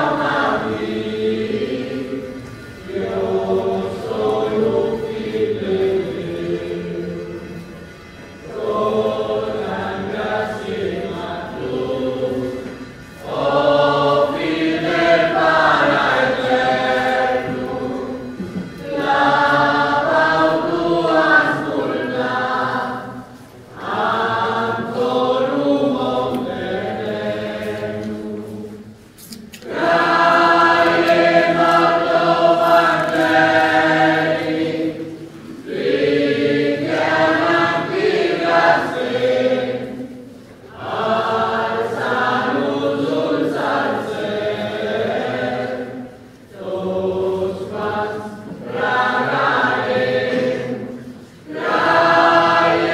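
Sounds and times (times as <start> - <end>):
church choir singing a hymn: 0.0 - 52.9.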